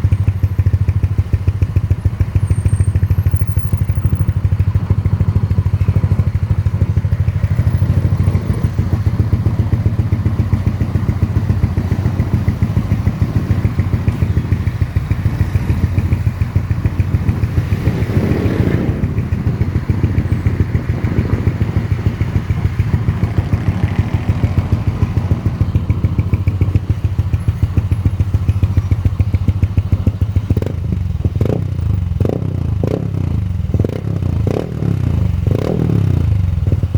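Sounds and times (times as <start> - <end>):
scooter engine idling: 0.0 - 36.9.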